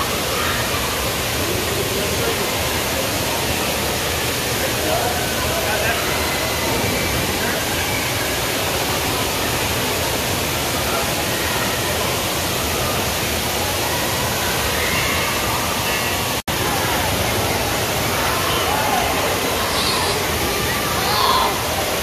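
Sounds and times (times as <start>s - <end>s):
faint voices of swimmers: 0.0s - 22.0s
rushing water: 0.0s - 22.0s.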